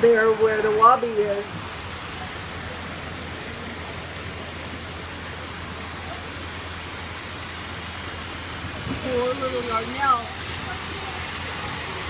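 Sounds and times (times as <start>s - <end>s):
flood water pouring across ground: 0.0s - 12.0s
heavy rain downpour: 0.0s - 12.0s.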